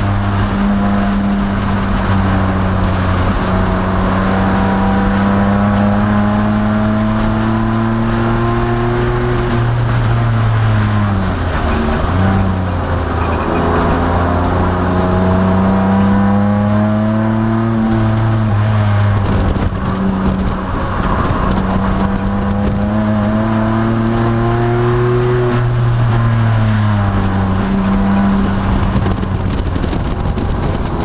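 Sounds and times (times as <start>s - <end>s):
race car engine at full throttle: 0.0s - 31.0s.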